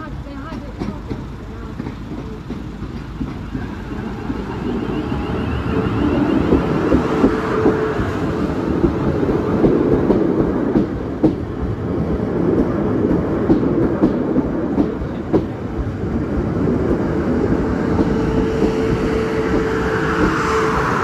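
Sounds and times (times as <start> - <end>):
train wheels rumbling on rails: 0.0 - 21.0
wheels clicking over rail joints: 0.0 - 21.0.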